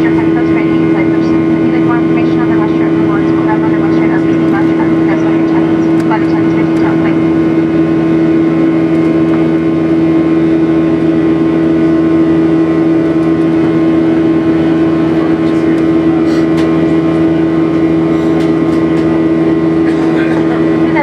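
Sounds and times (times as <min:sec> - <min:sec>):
jet engine cabin drone: 0:00.0 - 0:21.0.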